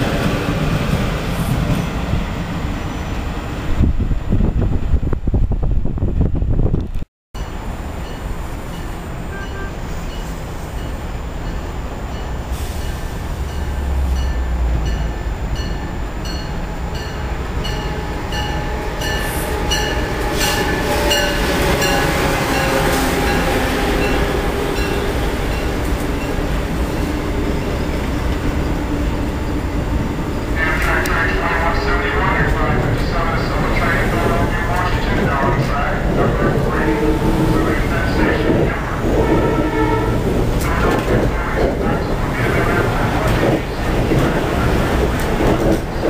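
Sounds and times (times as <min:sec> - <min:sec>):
high-speed train passing: 0:00.0 - 0:46.0.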